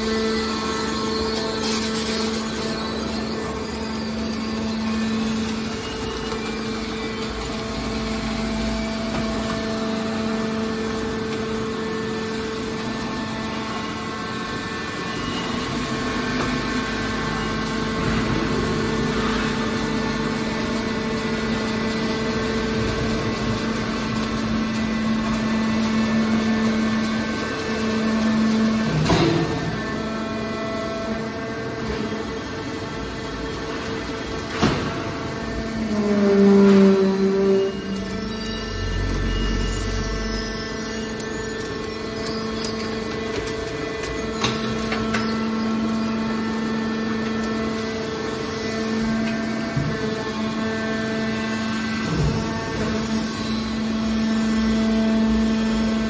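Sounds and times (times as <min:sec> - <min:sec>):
hydraulic power unit humming: 0:00.0 - 0:56.0.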